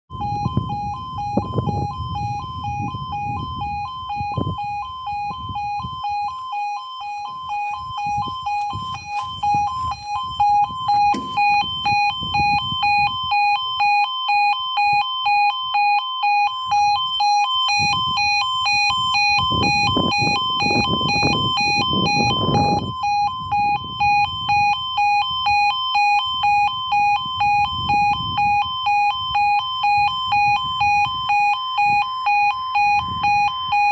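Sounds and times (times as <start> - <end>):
two-tone warbling alarm: 0.1 - 33.9.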